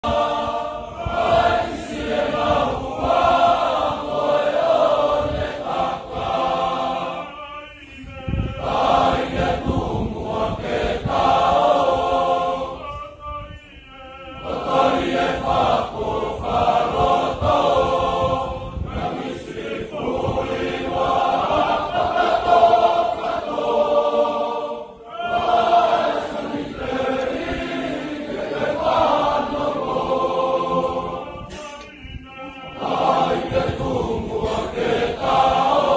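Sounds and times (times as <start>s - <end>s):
male choir singing unaccompanied: 0.0s - 35.9s.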